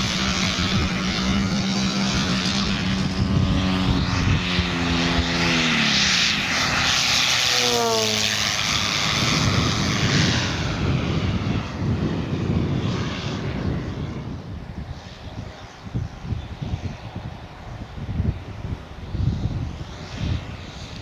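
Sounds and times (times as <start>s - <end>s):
model plane propeller buzzing: 0.0s - 21.0s.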